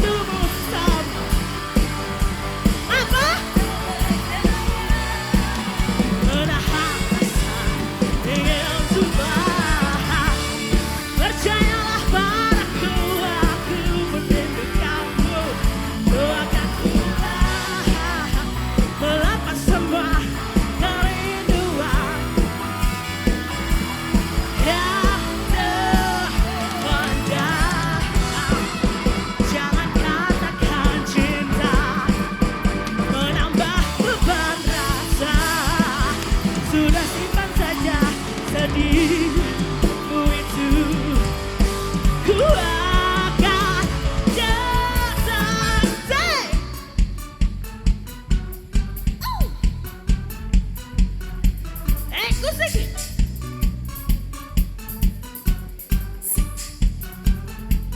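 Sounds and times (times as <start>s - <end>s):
live band music with vibrato melody: 0.0s - 57.9s.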